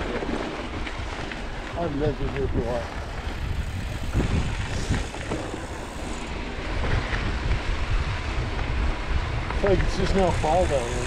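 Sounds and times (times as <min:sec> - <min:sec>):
bike tyres rolling on dirt: 0:00.0 - 0:11.0
wind rumbling on microphone: 0:00.0 - 0:11.0.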